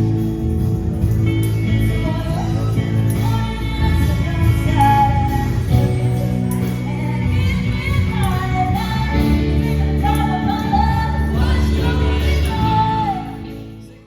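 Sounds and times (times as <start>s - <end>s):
band playing: 0.0s - 14.0s.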